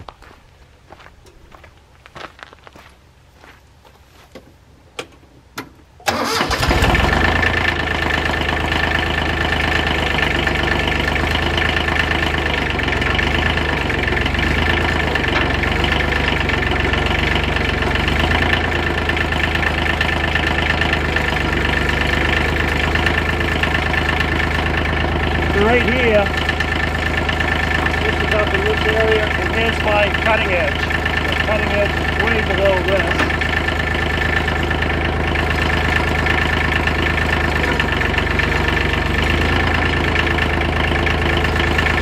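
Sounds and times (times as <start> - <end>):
diesel tractor engine starting: 5.0 - 42.0.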